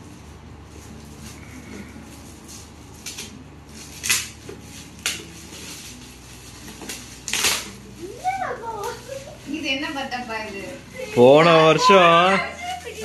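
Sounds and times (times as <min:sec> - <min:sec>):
foil wrap crackling: 0:00.0 - 0:13.0.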